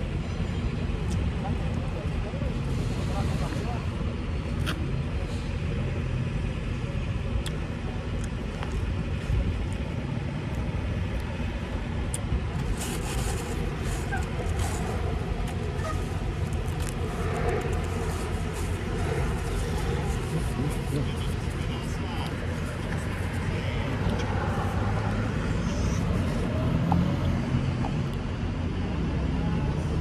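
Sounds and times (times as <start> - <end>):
road noise: 0.0 - 30.0
semi truck engine rumble: 0.0 - 30.0.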